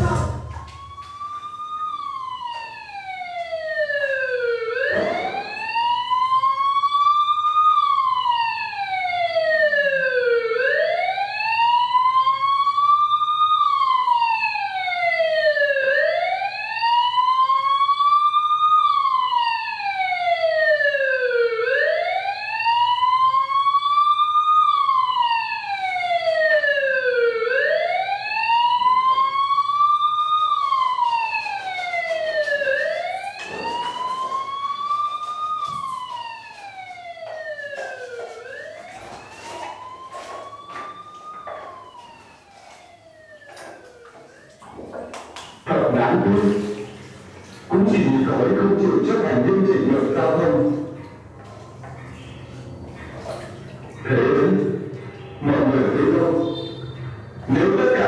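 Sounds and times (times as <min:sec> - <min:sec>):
emergency vehicle siren wailing: 0:00.0 - 0:58.0.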